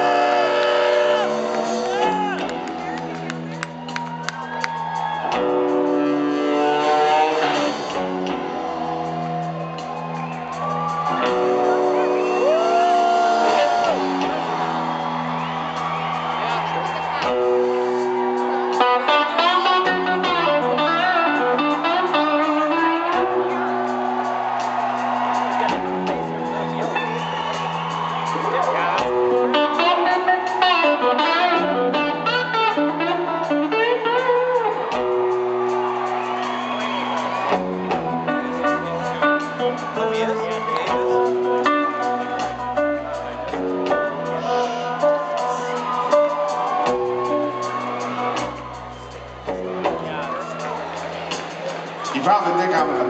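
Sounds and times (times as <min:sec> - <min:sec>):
electric guitar solo: 0:00.0 - 0:51.4
live rock band playing: 0:00.0 - 0:53.0.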